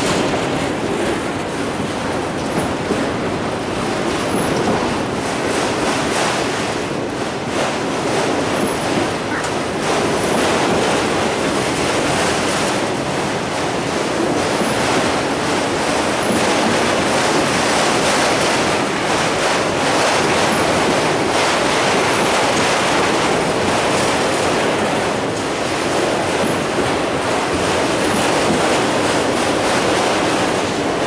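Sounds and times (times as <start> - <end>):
train wheels rolling on rails: 0.0 - 31.0.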